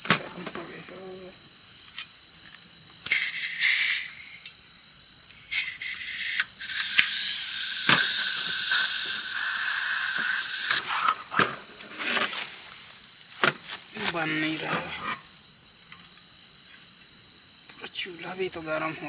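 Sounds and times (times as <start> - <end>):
gas hissing from stove: 0.9 - 16.6.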